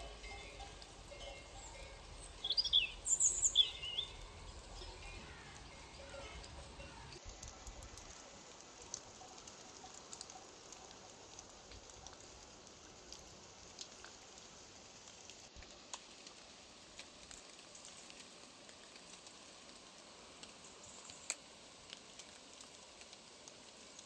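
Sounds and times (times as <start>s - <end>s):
raindrops ticking: 0.0s - 24.0s
soft steady hiss: 0.0s - 24.0s.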